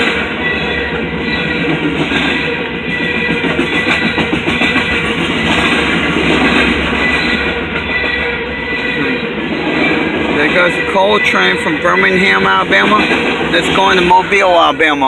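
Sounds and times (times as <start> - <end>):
train cars rumbling over rails: 0.0 - 15.0.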